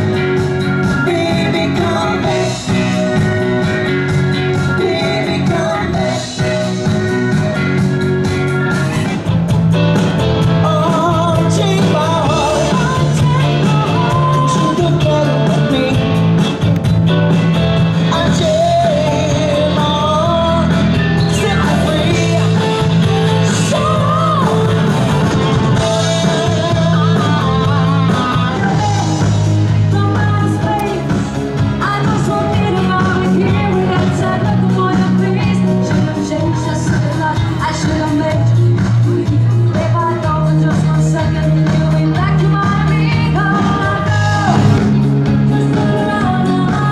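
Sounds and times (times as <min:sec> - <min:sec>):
woman singing lead: 0:00.0 - 0:09.3, 0:10.5 - 0:16.2, 0:18.0 - 0:46.9
bass guitar: 0:00.0 - 0:46.9
drums: 0:00.0 - 0:46.9
electric guitar: 0:00.0 - 0:46.9.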